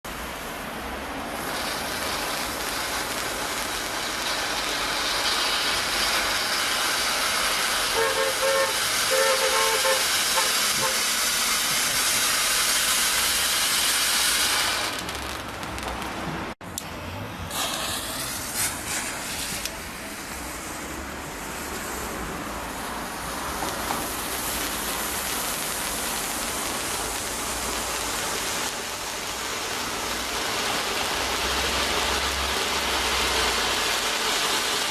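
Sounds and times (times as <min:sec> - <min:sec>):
firework fountain hissing sparks: 0:00.1 - 0:34.9.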